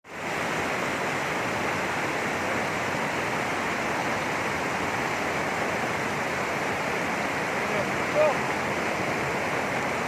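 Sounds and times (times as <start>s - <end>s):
waterfall rushing: 0.1s - 10.0s.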